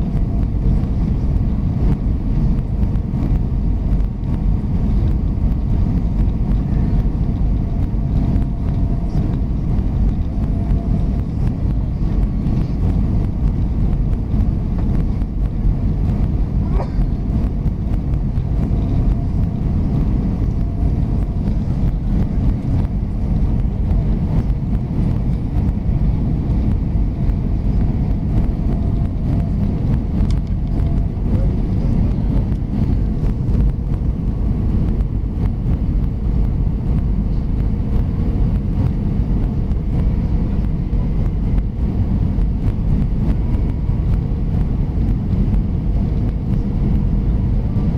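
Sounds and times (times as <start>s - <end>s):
aircraft cabin engine rumble: 0.0s - 47.9s
faint steady hum: 0.0s - 47.9s.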